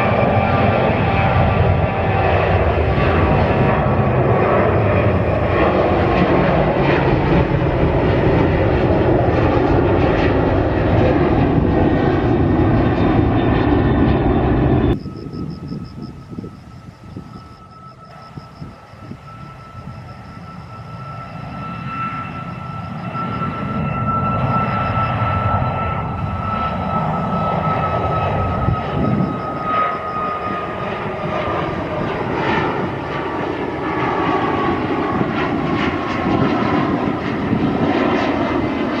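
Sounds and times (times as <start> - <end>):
airliner engines running: 0.0 - 39.0.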